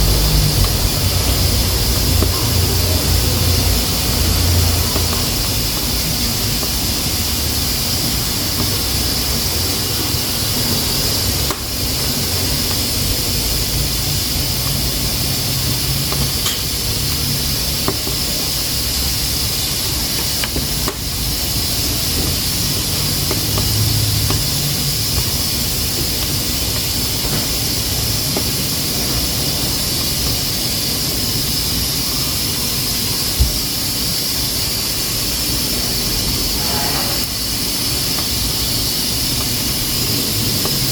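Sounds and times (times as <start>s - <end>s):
pressure cooker hissing: 0.0s - 40.9s.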